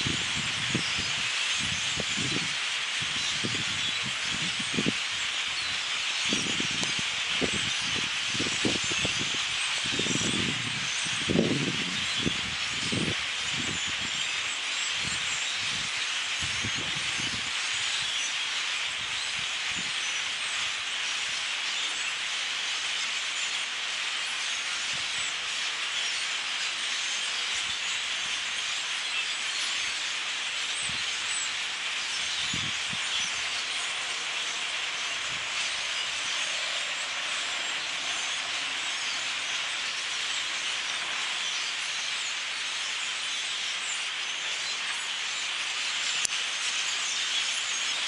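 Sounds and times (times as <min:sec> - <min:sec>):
huge flock of birds chirping: 0:00.0 - 0:48.0.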